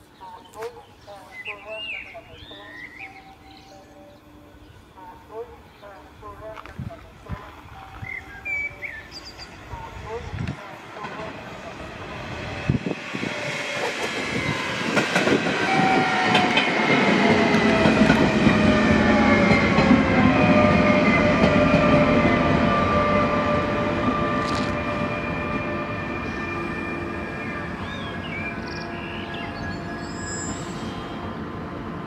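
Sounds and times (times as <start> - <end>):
train traction motors whining: 2.1 - 31.9
wheels rumbling on rail: 4.4 - 32.0.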